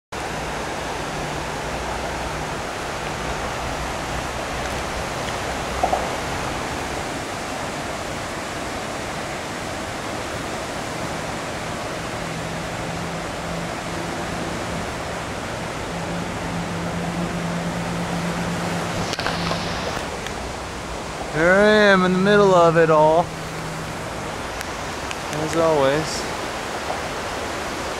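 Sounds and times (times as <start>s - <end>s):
rushing floodwater: 0.1s - 27.9s.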